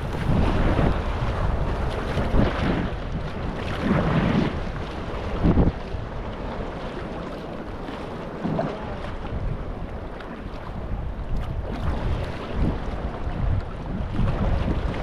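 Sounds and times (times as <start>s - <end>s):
water splashing around kayak: 0.0s - 15.0s
wind buffeting microphone: 0.0s - 15.0s.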